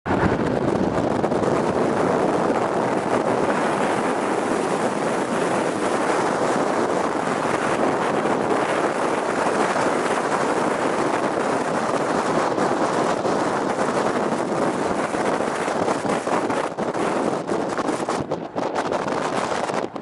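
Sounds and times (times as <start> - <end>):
strong blizzard wind: 0.0 - 20.0.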